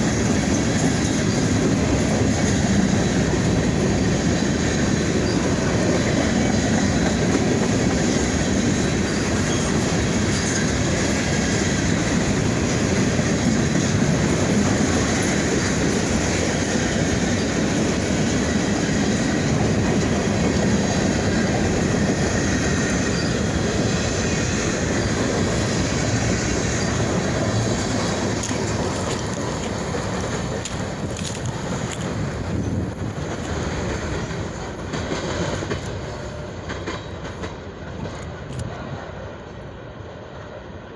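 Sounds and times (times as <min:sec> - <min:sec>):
train wheels running over track: 0:00.0 - 0:40.9.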